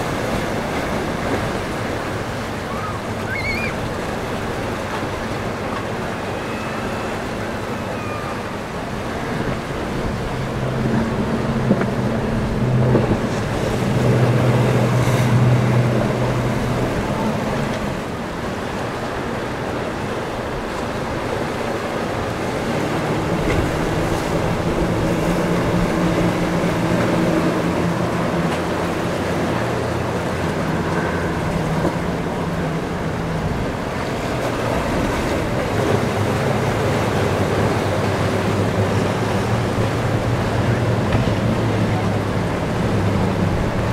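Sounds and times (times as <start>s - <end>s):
boat engine drone: 0.0s - 43.9s
rush of wake and waves: 0.0s - 43.9s.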